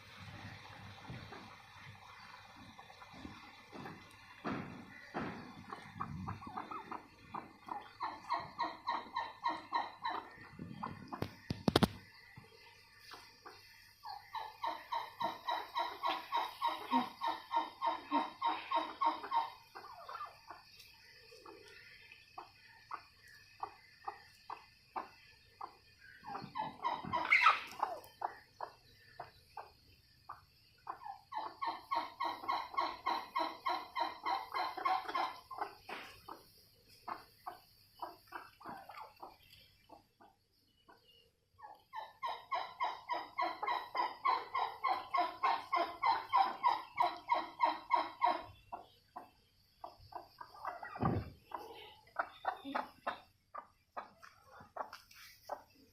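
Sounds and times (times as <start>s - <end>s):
turkeys calling: 0.0s - 55.9s.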